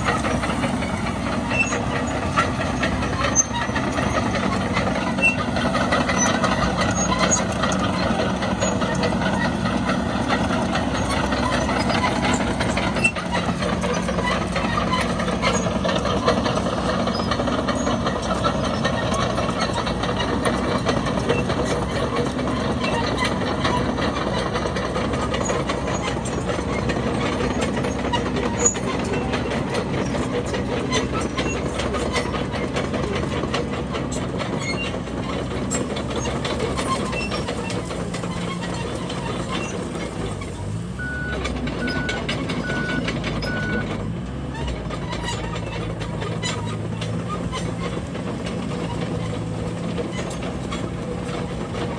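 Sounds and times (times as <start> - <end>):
bulldozer diesel engine running: 0.0 - 51.9
tracks clanking: 0.0 - 51.9.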